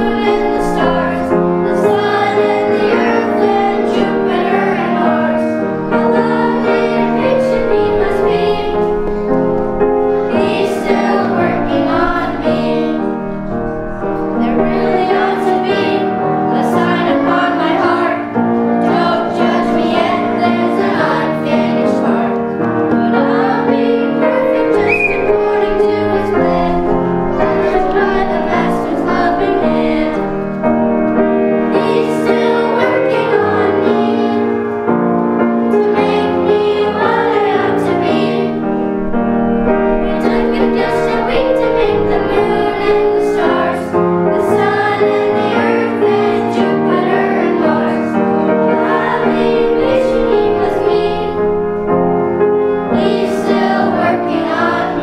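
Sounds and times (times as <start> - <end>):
children's choir singing: 0.0 - 55.0
piano accompaniment: 0.0 - 55.0.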